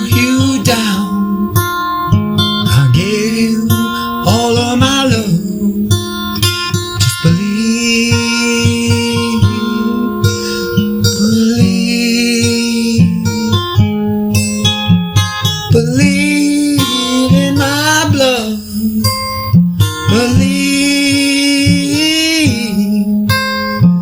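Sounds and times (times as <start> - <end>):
person singing long wordless notes: 0.0 - 13.8, 15.5 - 24.0
acoustic guitar strumming: 0.0 - 24.0.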